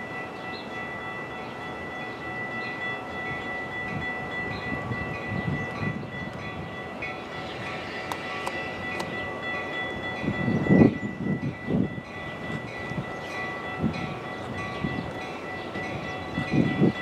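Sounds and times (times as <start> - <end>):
railroad crossing bells ringing: 0.0 - 17.0.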